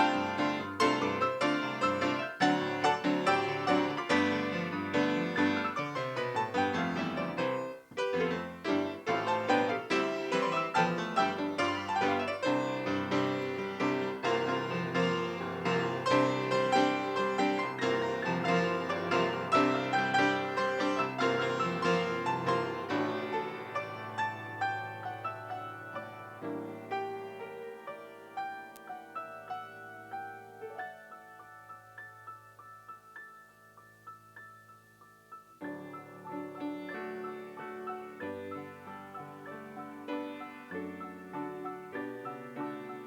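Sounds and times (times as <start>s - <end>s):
piano playing: 0.0s - 43.0s.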